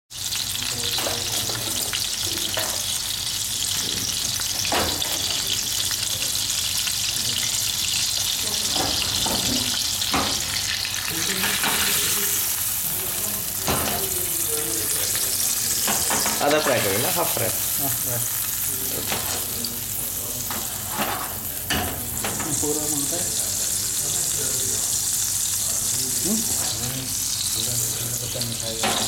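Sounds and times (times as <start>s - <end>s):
fish sizzling in oil: 0.1s - 29.0s.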